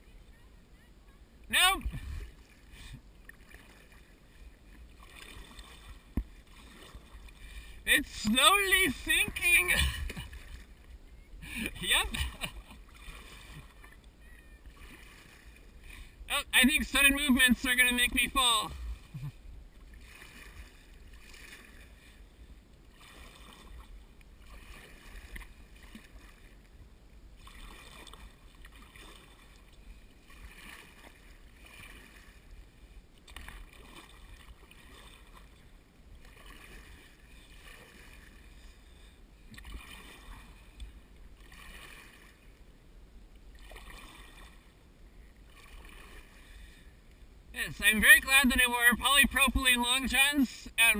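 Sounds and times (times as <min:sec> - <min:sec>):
paddle swishing through water: 0:00.0 - 0:50.9.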